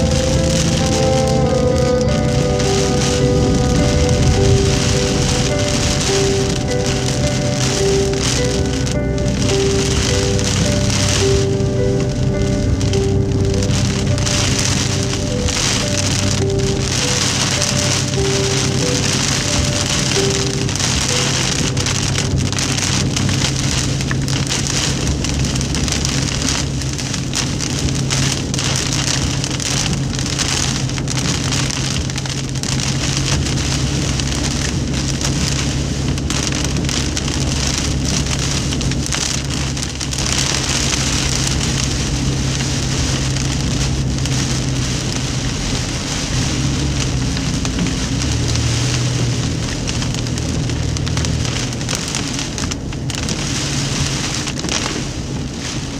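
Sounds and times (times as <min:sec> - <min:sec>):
heavy rain drumming on car roof: 0:00.0 - 0:55.9
moving car low hum: 0:00.0 - 0:55.9.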